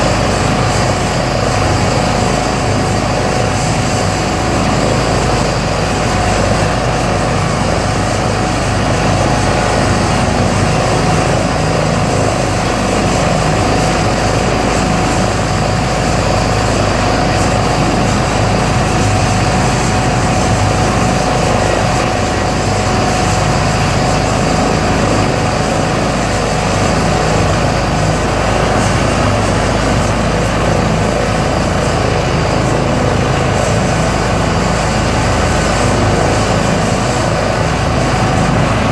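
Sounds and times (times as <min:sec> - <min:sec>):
helicopter rotor and turbine: 0:00.0 - 0:38.9
high turbine whine: 0:00.0 - 0:38.9.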